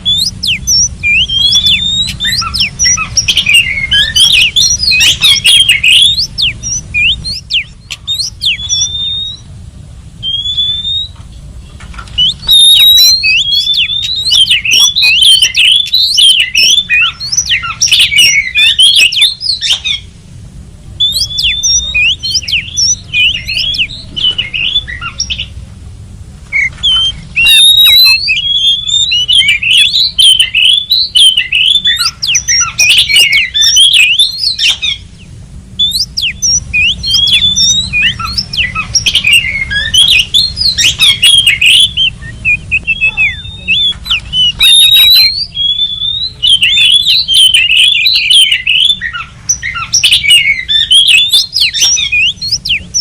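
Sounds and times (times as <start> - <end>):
songbird whistling song: 0.0 - 9.6, 10.2 - 20.1, 21.0 - 25.6, 26.5 - 53.0.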